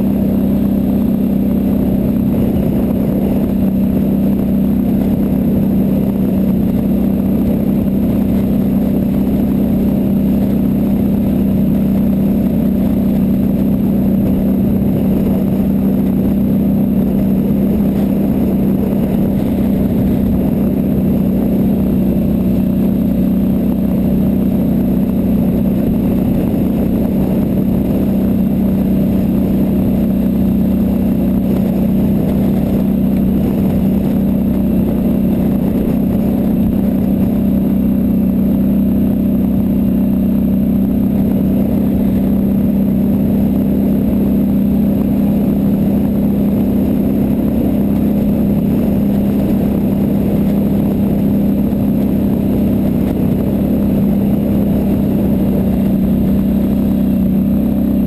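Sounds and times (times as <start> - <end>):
atv engine droning: 0.0 - 58.0.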